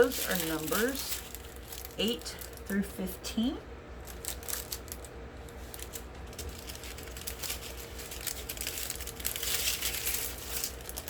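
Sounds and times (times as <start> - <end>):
plastic bags crinkling: 0.0 - 2.8, 3.9 - 11.0.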